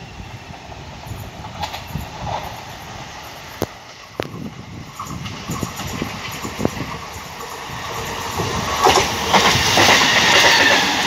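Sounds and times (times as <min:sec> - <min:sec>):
train wheels rumbling on rail: 0:00.0 - 0:11.0
sharp clacks of wheels: 0:01.1 - 0:11.0.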